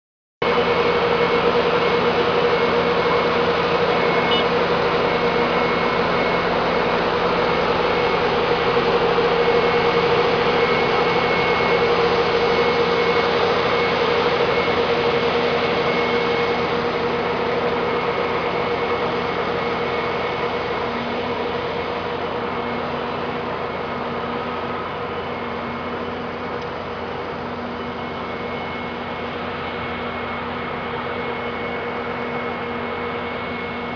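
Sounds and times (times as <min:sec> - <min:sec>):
machine humming: 0:00.4 - 0:33.9.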